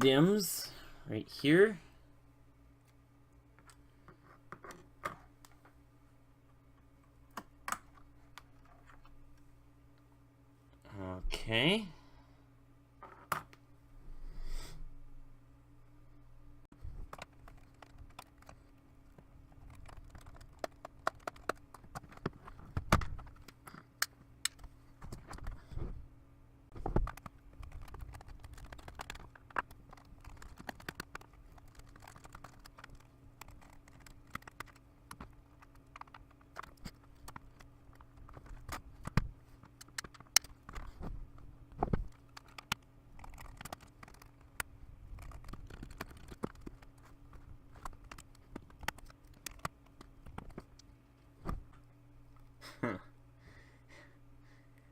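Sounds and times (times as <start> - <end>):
faint low hum: 0.0 - 54.9.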